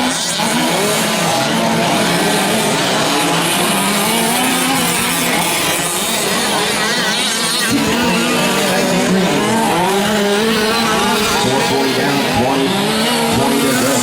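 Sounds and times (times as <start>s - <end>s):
rc truck engines buzzing: 0.0s - 14.0s.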